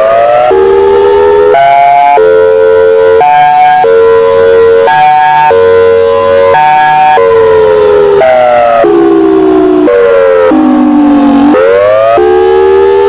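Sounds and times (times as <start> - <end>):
outdoor warning siren: 0.0 - 13.0.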